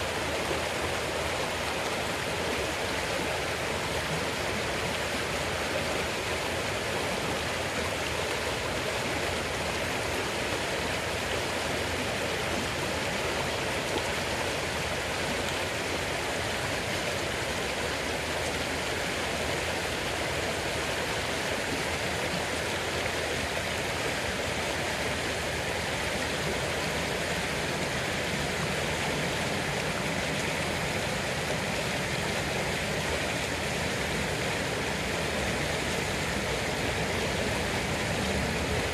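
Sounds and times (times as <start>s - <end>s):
shallow river rushing over stones: 0.0s - 38.9s.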